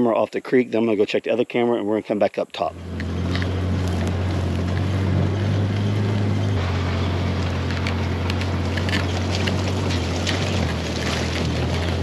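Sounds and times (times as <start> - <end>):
vehicle engine running: 2.0 - 12.0.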